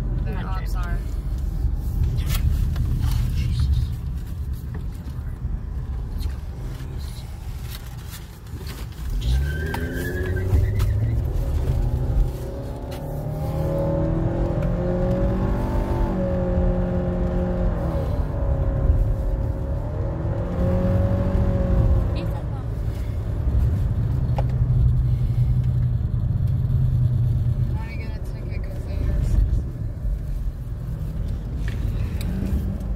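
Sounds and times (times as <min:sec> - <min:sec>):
car engine and road noise: 0:00.0 - 0:32.9.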